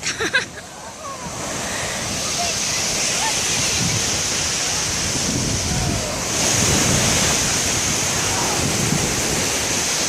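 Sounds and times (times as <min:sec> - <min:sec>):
ocean surf washing onto beach: 0:00.0 - 0:10.0
wind buffeting microphone: 0:01.2 - 0:10.0.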